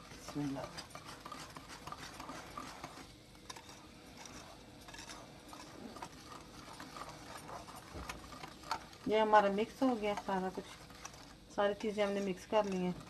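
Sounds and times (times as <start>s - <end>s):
whisk scraping ceramic bowl: 0.0s - 13.0s.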